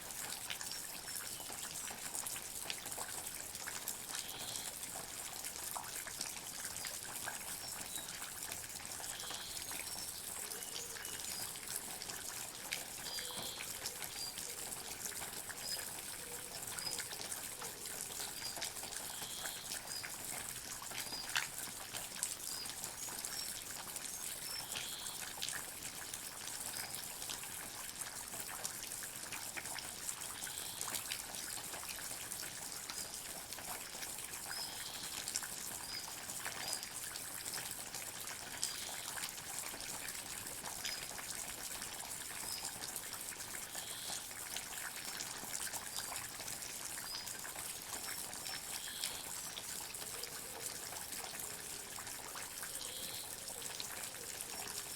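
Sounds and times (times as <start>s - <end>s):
water dripping and trickling: 0.0s - 54.9s.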